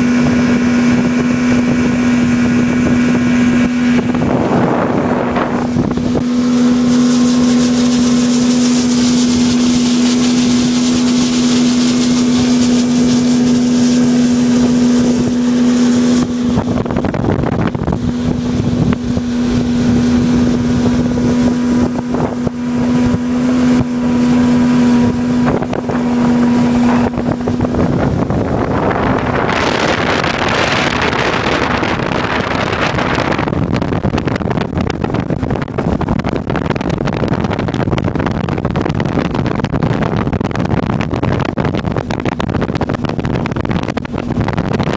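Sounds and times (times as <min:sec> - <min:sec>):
outboard motor running: 0:00.0 - 0:44.9
wind: 0:00.0 - 0:44.9.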